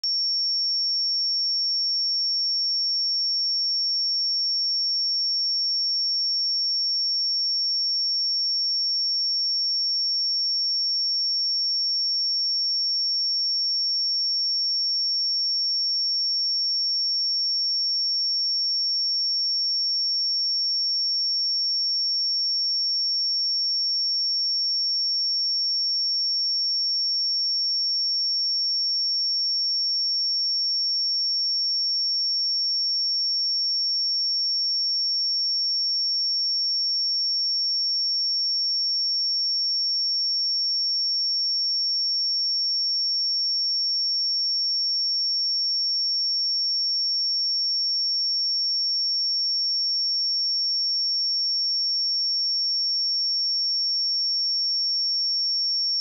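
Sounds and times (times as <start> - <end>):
high-pitched sine test tone: 0.0 - 56.0.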